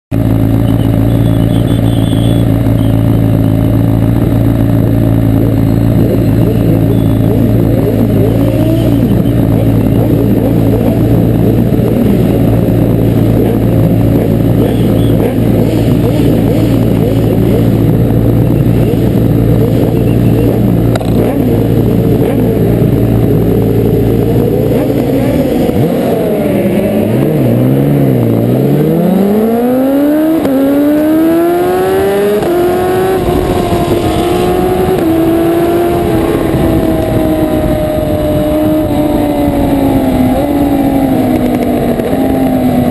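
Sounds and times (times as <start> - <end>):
motorcycle accelerating away: 0.1 - 42.9
motorcycle engines revving: 0.1 - 42.9.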